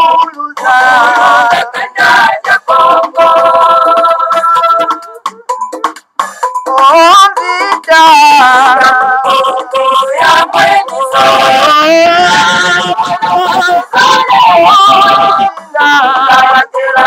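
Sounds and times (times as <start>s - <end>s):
people singing a melody: 0.0s - 5.3s, 6.7s - 17.0s.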